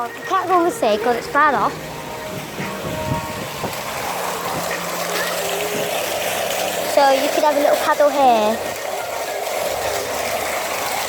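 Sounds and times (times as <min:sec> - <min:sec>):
water pouring: 0:00.0 - 0:11.0.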